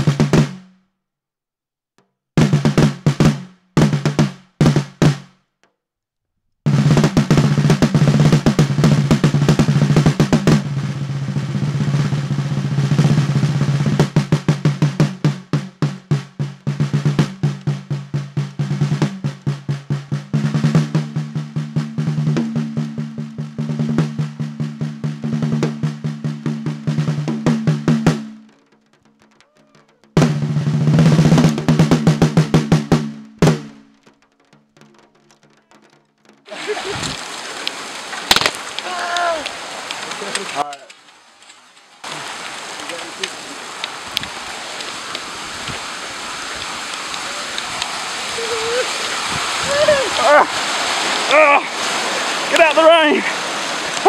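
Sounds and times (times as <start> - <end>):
snare drum rolls: 0.0 - 0.8, 2.4 - 5.4, 6.7 - 41.1, 42.0 - 54.0.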